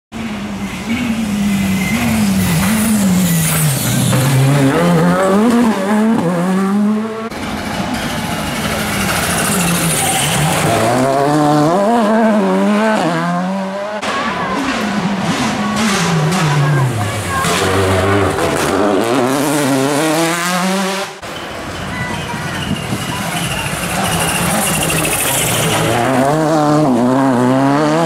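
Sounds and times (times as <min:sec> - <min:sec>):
rally car engines revving: 0:00.2 - 0:28.0.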